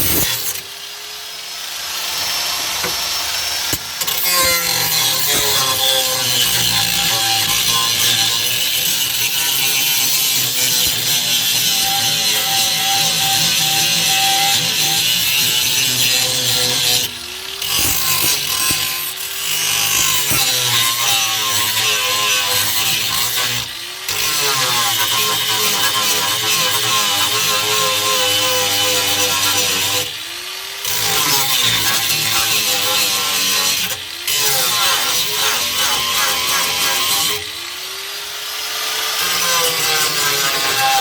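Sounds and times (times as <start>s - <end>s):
power tool on sheet metal: 0.0s - 41.0s.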